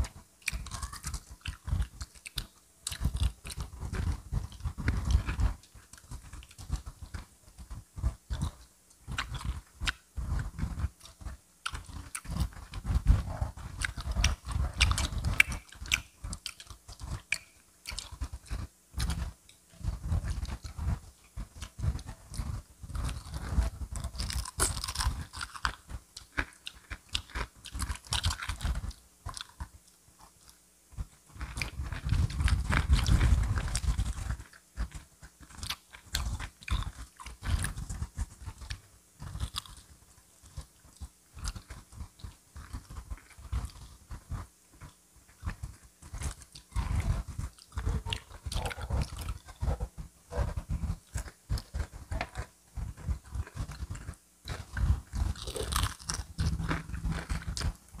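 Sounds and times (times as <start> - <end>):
crunching fried chicken: 0.0 - 58.0
wet chewing: 0.0 - 58.0.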